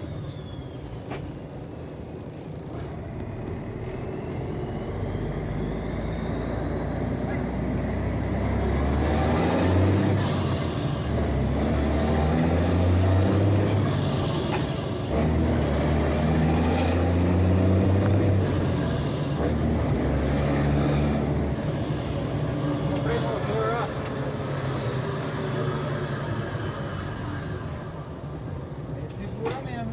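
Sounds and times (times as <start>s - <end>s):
diesel truck engine under load: 0.0s - 29.9s.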